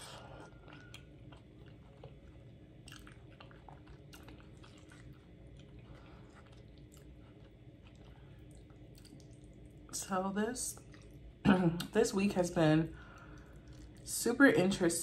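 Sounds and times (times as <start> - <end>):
faint soft chewing: 0.0 - 10.0, 10.7 - 12.0, 13.0 - 14.2.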